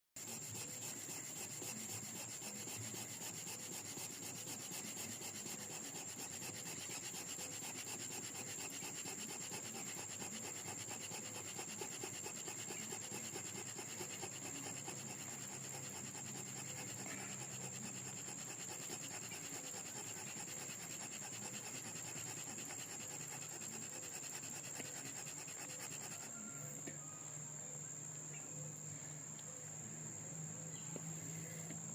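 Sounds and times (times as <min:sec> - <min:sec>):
stick scraping wooden groove: 0:00.2 - 0:26.6
high insect drone: 0:00.2 - 0:31.9.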